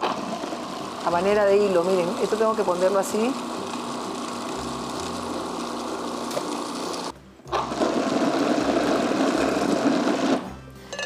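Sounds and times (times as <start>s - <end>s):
food processor motor running: 0.0s - 10.4s.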